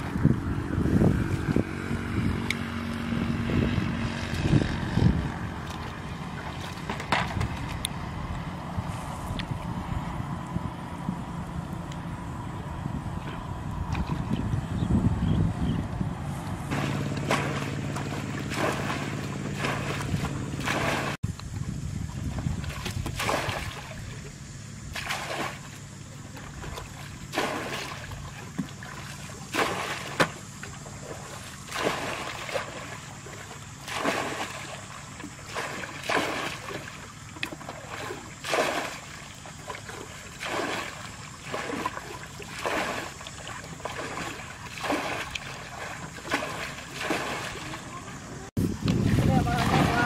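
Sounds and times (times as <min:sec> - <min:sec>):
muddy water splashing: 0:00.0 - 0:11.1, 0:16.2 - 0:50.0.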